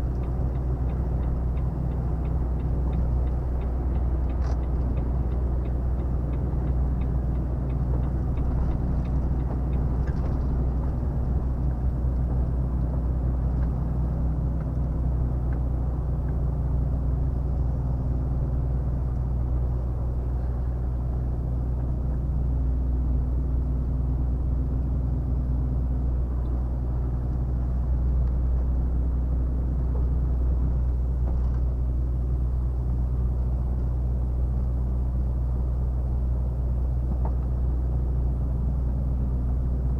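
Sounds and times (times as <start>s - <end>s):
road rumble: 0.0s - 39.9s
truck diesel engine droning: 0.0s - 39.9s.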